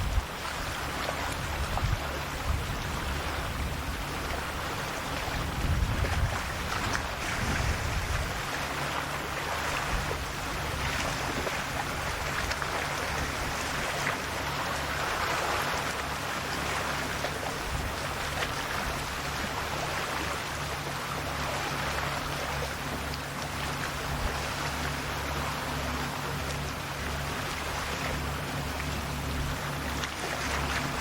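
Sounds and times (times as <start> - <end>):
low steady hum: 0.0 - 31.0
small waves washing on shore: 0.0 - 31.0.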